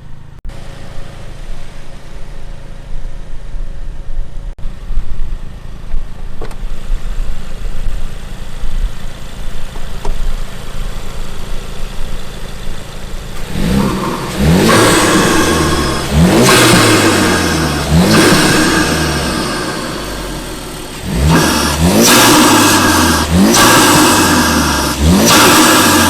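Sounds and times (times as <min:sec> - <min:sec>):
car engine rumbling and accelerating: 0:00.0 - 0:26.0.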